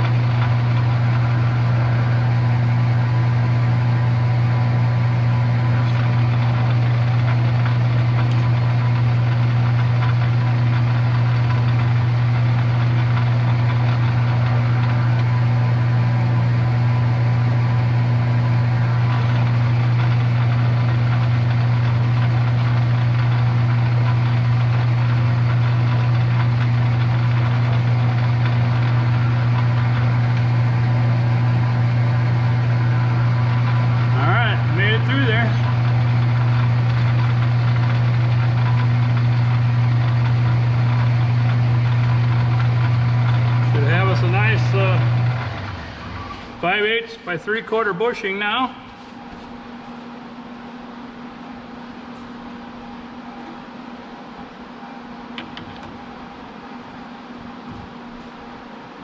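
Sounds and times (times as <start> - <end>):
metal lathe motor hum: 0.0 - 59.0.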